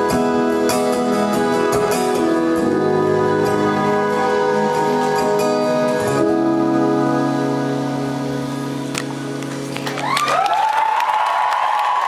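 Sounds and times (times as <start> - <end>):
strummed acoustic guitar: 0.0 - 9.9
electric guitar: 0.0 - 10.7.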